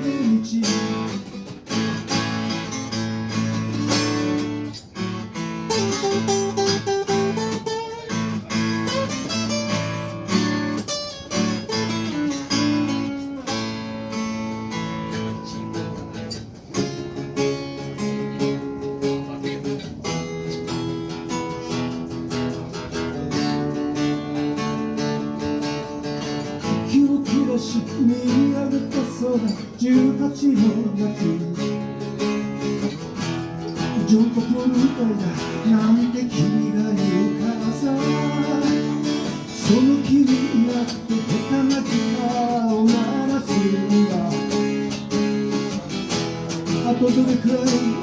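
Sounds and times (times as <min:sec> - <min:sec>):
acoustic guitar strumming and picking: 0:00.0 - 0:48.0.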